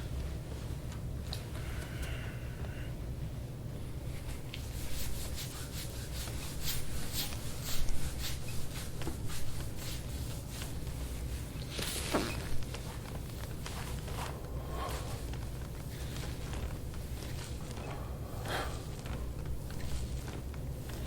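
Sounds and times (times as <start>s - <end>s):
steady low hum: 0.0s - 21.0s
hands rubbing skin and clothing: 4.1s - 21.0s.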